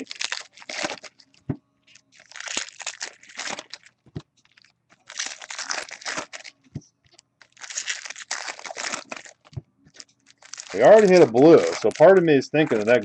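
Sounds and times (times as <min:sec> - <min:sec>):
foil wrapper rustling and crinkling: 0:00.0 - 0:06.6, 0:07.4 - 0:13.0.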